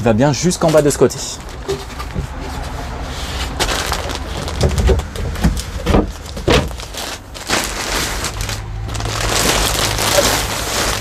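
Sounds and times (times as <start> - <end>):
plastic wrap crinkling: 0.6 - 11.0.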